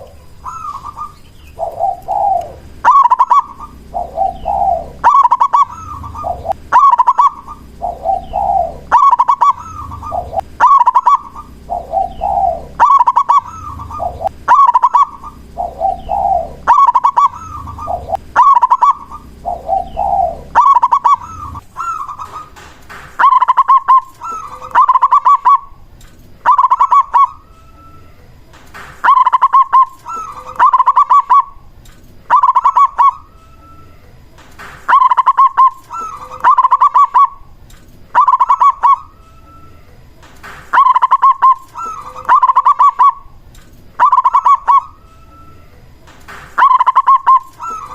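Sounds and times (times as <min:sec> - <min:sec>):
dove cooing: 0:00.0 - 0:28.1, 0:29.0 - 0:31.7, 0:32.3 - 0:34.0, 0:34.9 - 0:39.8, 0:40.7 - 0:43.4, 0:44.0 - 0:45.6, 0:46.6 - 0:47.9
bird chirping: 0:00.0 - 0:47.9.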